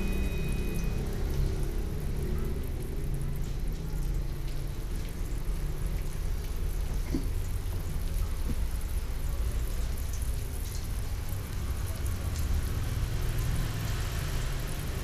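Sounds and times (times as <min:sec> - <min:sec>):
garlic and onion sizzling in oil: 0:00.0 - 0:15.0
gas burner rumbling: 0:00.0 - 0:15.0
oil popping: 0:00.0 - 0:15.0.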